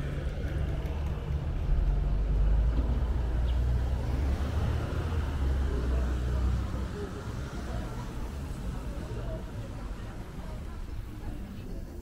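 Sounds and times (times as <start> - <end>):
road traffic rumble: 0.0 - 12.0
street noise: 0.0 - 12.0.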